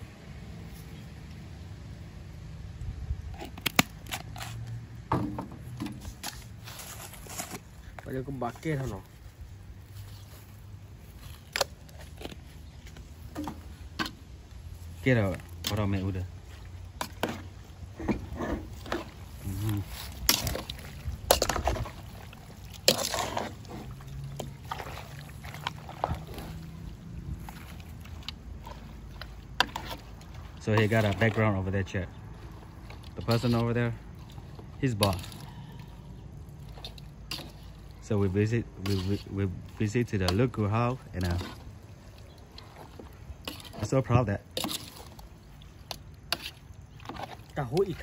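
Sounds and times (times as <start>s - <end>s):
low steady hum: 0.0s - 48.0s
ladle stirring wet stew: 3.3s - 48.0s.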